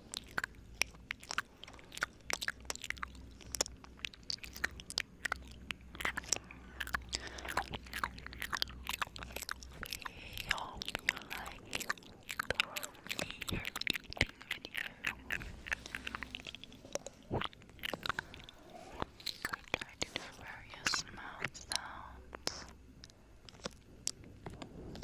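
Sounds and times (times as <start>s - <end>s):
wet mouth clicks and smacks: 0.0s - 25.0s.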